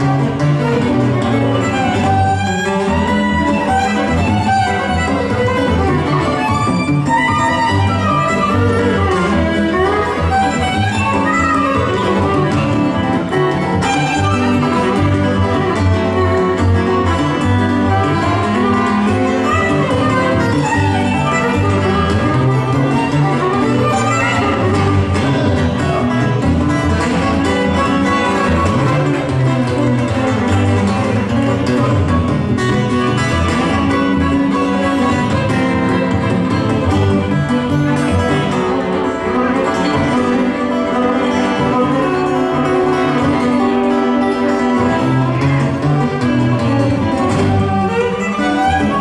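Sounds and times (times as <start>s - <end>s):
acoustic guitar picking: 0.0s - 49.0s
fiddle playing fast notes: 0.0s - 49.0s.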